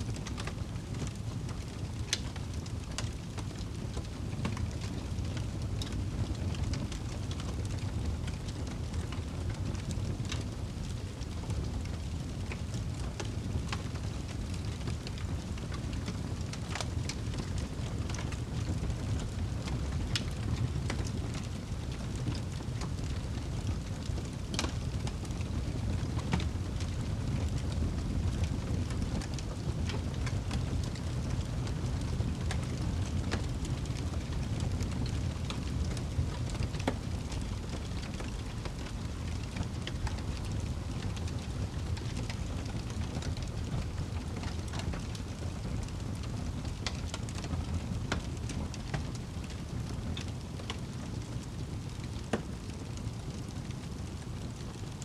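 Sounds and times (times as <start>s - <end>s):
wood fire crackling: 0.0s - 55.0s
sharp pops and snaps of fire: 0.2s - 54.7s.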